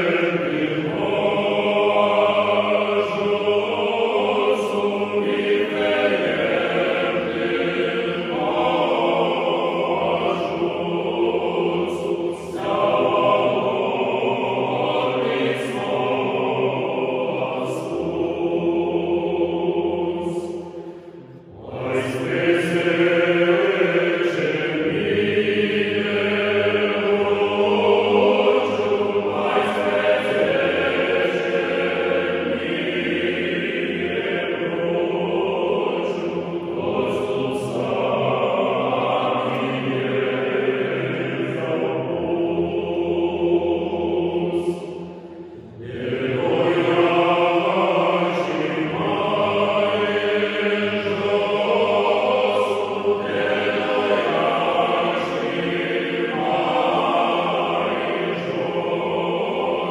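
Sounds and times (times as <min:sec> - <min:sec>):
male choir singing a cappella: 0:00.0 - 0:59.9.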